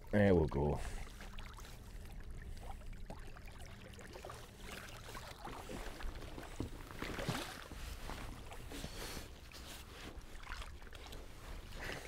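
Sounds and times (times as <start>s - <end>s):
water lapping at hull: 0.0s - 12.0s.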